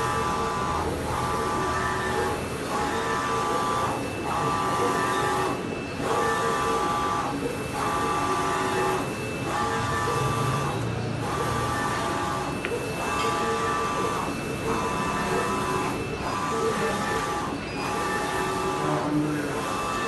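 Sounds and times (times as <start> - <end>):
printer carriage machine whine: 0.0 - 20.0.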